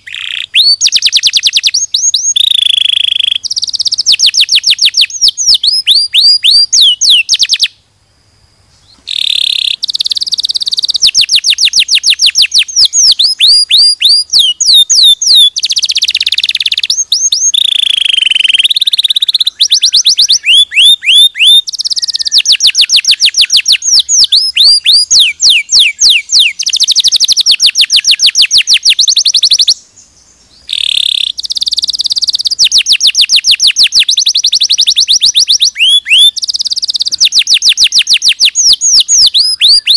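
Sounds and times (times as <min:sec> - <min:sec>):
canary singing trills: 0:00.0 - 0:07.8, 0:08.7 - 0:39.9.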